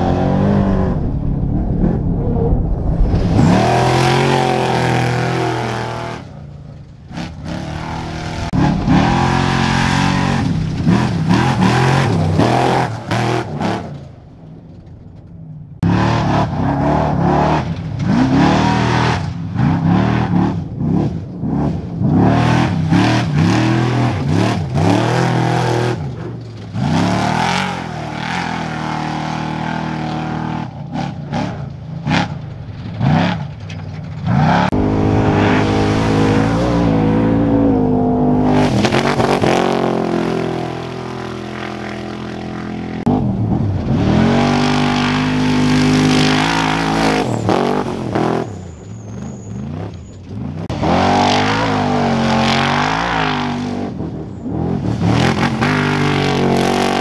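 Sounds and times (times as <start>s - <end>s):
race truck engines revving: 0.0s - 57.0s.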